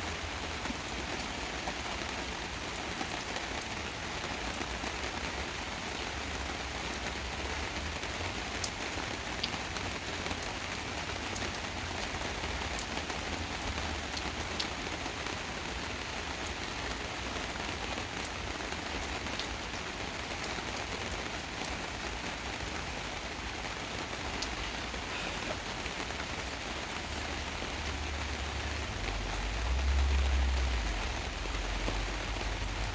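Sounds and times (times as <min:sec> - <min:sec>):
gentle rain falling: 0:00.0 - 0:32.9.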